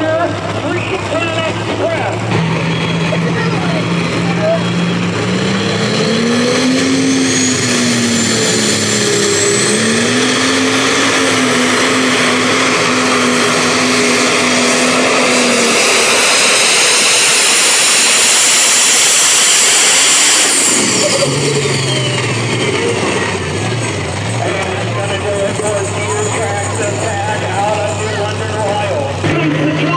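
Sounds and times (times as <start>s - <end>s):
diesel engine at full throttle: 0.0s - 29.9s
high turbo whine: 0.0s - 29.9s.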